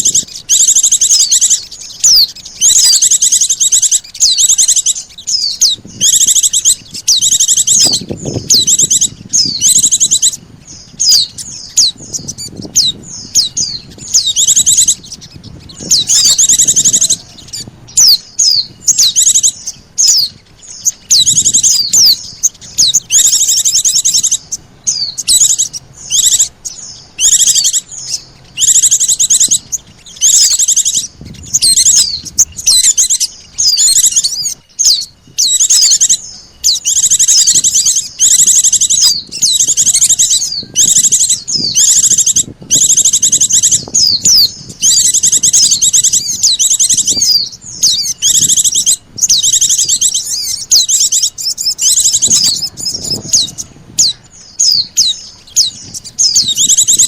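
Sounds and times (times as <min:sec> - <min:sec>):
high-pitched bird twittering: 0:00.0 - 0:57.0.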